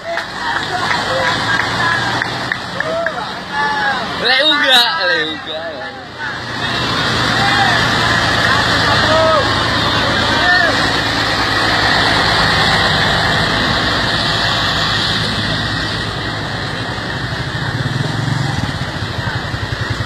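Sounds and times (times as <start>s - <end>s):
traffic noise: 0.0s - 20.0s
vehicle engine running: 0.0s - 20.0s.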